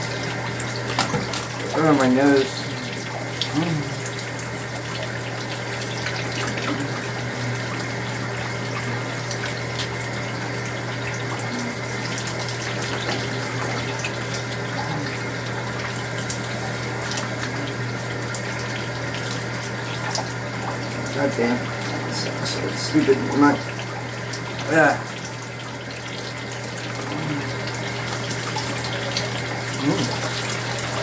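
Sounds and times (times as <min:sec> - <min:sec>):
shower water spraying: 0:00.0 - 0:31.0.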